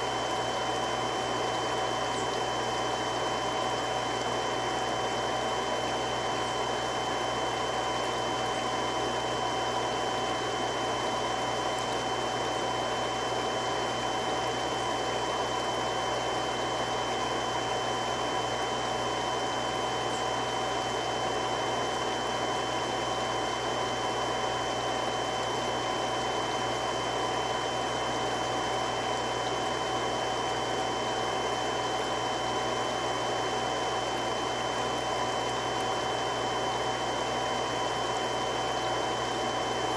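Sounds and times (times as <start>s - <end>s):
water pump running: 0.0s - 39.9s.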